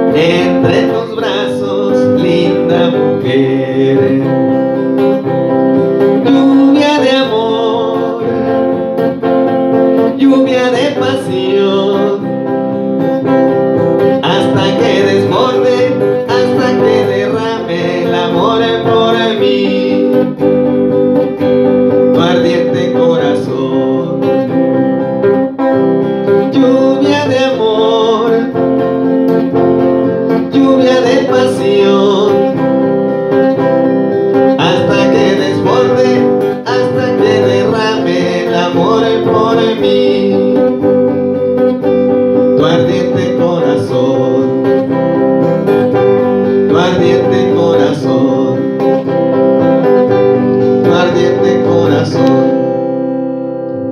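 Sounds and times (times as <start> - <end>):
electric guitar: 0.0 - 53.9.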